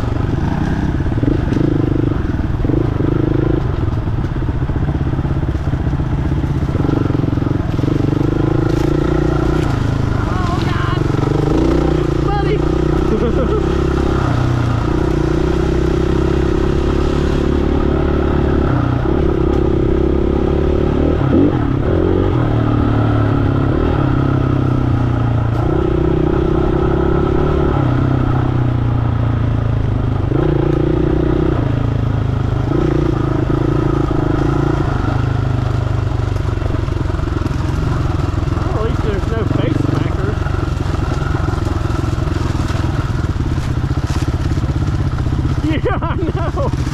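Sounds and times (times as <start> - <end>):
dirt bike engine revving: 0.0 - 3.8, 6.4 - 28.5, 32.6 - 46.9.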